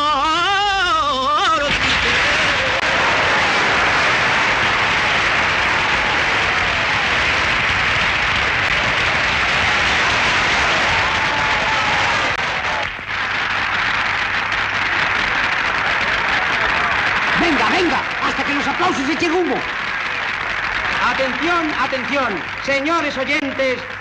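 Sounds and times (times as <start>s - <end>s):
large audience applauding: 1.7s - 24.0s.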